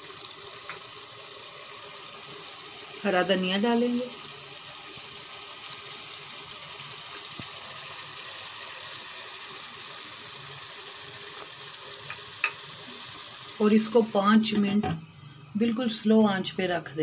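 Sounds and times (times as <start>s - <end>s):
curry sizzling in a wok: 0.0s - 17.0s.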